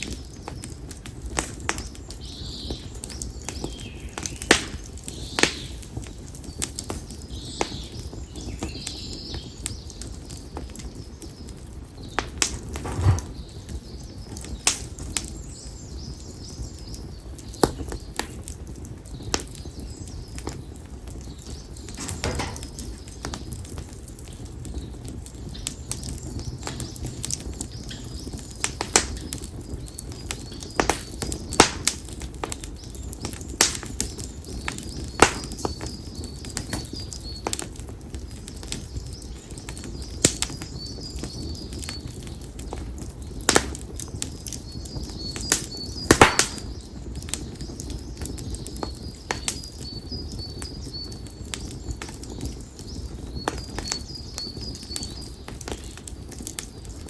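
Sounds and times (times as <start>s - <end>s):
firewood crackling and popping: 0.0s - 57.0s
flames rustling: 0.0s - 57.0s.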